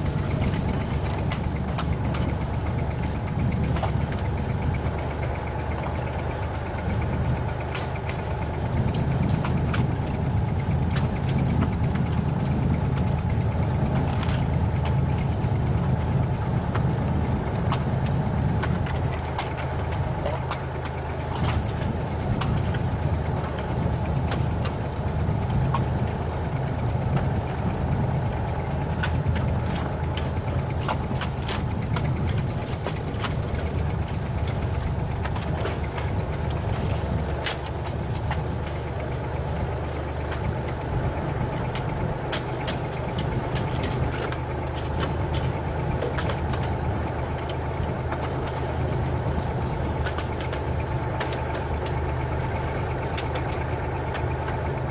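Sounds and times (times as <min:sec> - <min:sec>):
diesel engine drone: 0:00.0 - 0:54.9
wheels clicking on rails: 0:00.0 - 0:54.9.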